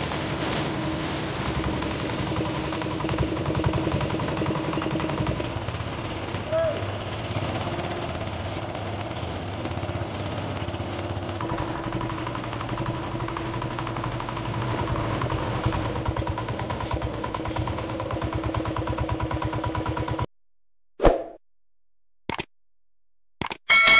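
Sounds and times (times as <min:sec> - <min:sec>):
boat engine pulsing: 0:00.0 - 0:20.3.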